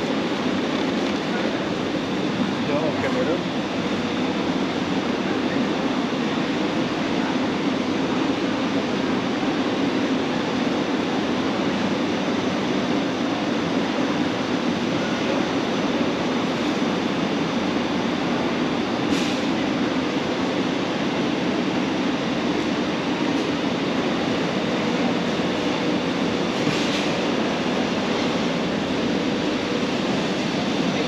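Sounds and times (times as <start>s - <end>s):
rumbling warehouse interior noise: 0.0s - 31.0s.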